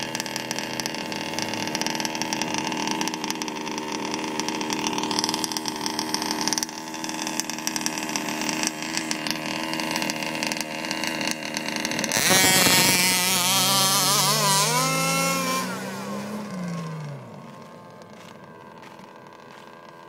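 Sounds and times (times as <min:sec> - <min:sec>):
car engine rising in pitch: 0:00.0 - 0:20.0
small two-stroke engine: 0:00.0 - 0:20.0.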